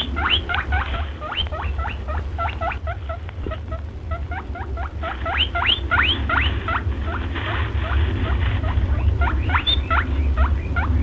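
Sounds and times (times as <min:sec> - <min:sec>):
rabbit screaming squeaks: 0:00.0 - 0:11.0
steady low hum: 0:00.0 - 0:11.0.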